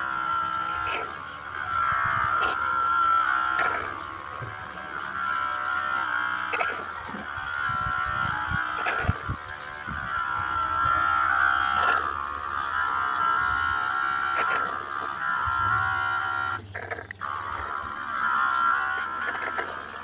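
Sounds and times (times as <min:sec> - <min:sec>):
electric suction pump whine: 0:00.0 - 0:20.0.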